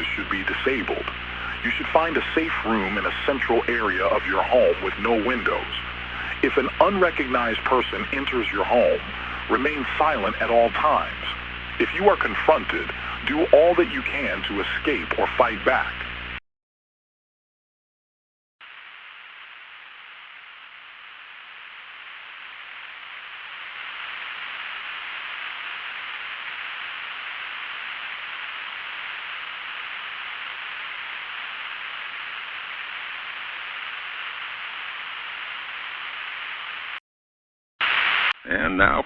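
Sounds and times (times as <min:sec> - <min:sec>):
static hiss: 0:00.0 - 0:16.4, 0:18.6 - 0:37.0, 0:37.8 - 0:39.0.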